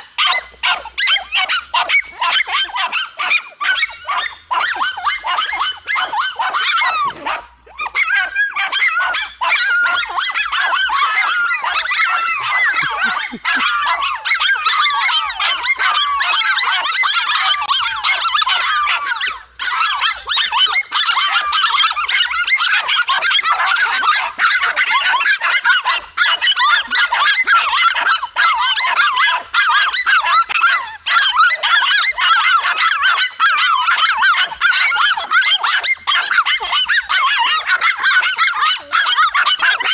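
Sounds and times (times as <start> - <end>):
dogs barking: 0.0 - 39.9.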